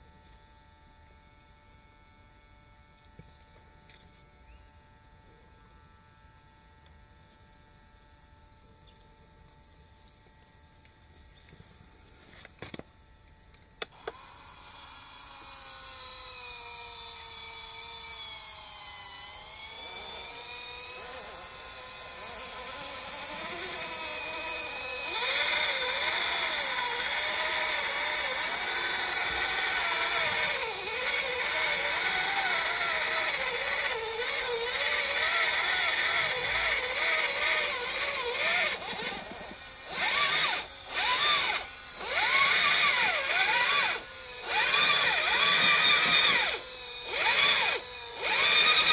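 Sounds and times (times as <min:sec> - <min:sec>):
electric motor and gearbox whining: 0:00.0 - 0:48.9.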